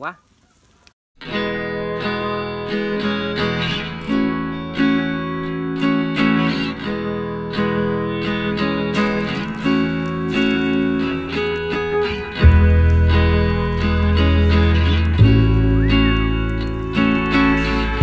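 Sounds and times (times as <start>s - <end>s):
plucked guitar music: 1.2s - 18.0s.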